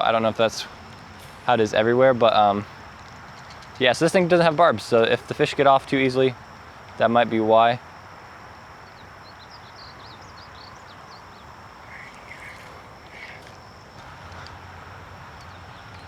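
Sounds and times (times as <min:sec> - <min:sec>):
birds chirping: 0:00.0 - 0:16.0
outdoor background hiss: 0:00.0 - 0:16.0.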